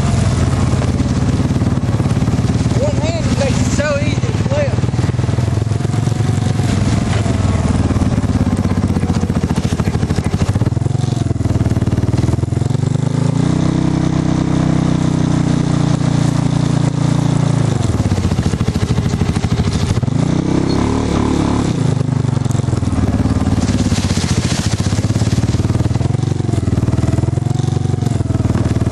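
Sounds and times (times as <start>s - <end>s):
off-road vehicle engine running: 0.0s - 28.9s.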